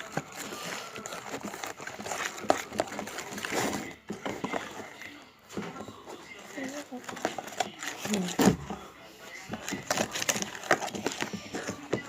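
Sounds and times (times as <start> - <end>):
slime stirred in a bowl: 0.0 - 12.0.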